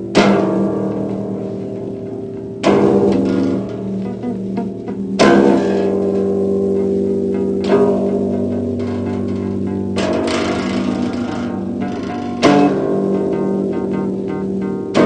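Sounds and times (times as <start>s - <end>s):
struck ringing chord: 0.0s - 14.4s.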